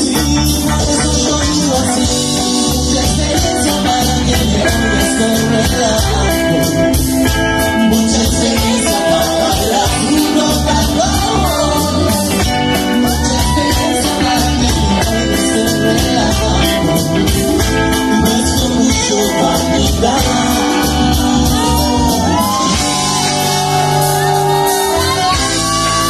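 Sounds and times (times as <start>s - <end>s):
drums: 0.0s - 26.0s
guitar: 0.0s - 26.0s
man singing: 0.0s - 26.0s.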